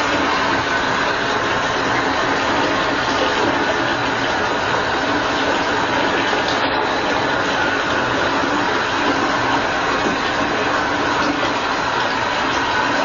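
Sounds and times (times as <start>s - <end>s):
water pouring into bathtub: 0.0s - 13.0s.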